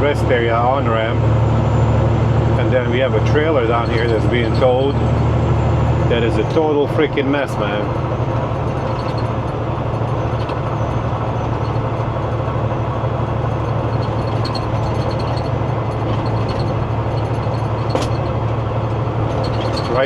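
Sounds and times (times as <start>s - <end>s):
road noise: 0.0s - 20.0s
truck engine drone: 0.0s - 20.0s.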